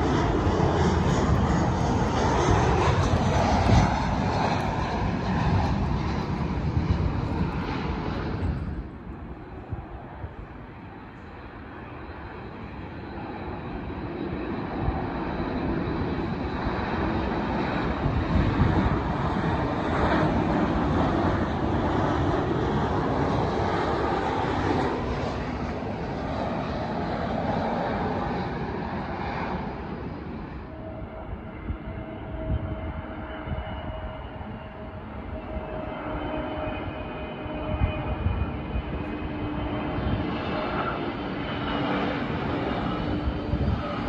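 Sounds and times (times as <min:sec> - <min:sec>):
jet engine roar: 0:00.0 - 0:44.0
twin-engine jet approaching: 0:00.0 - 0:44.0.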